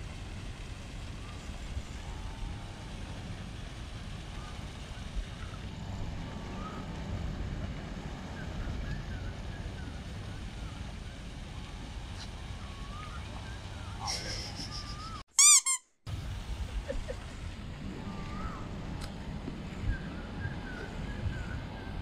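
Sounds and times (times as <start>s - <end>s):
low outdoor rumble: 0.0s - 15.2s, 16.1s - 22.0s.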